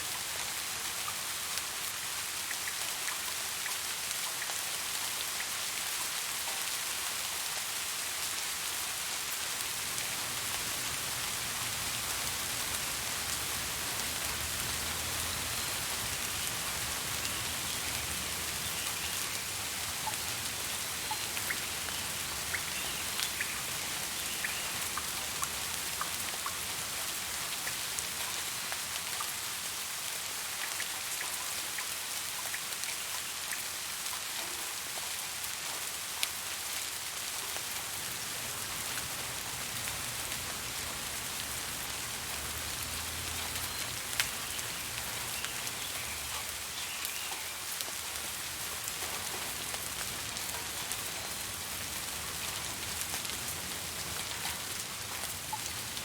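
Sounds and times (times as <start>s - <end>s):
raindrops ticking on a surface: 0.0s - 56.0s
steady rain hissing: 0.0s - 56.0s.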